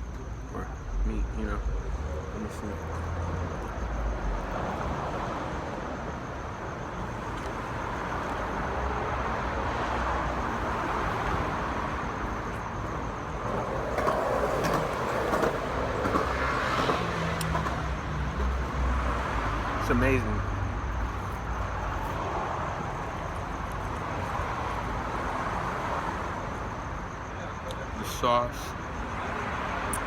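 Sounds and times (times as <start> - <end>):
passing road traffic hum: 0.0 - 30.0.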